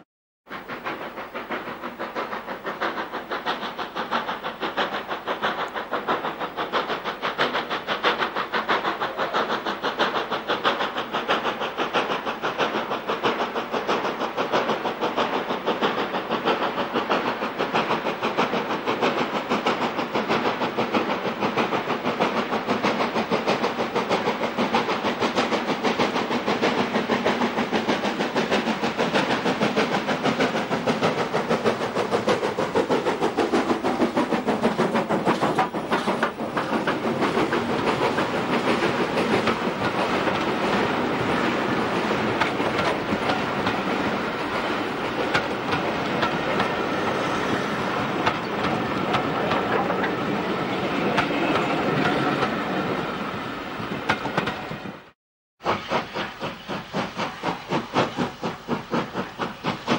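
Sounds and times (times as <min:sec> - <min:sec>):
steam locomotive exhaust beats: 0:00.4 - 0:59.9.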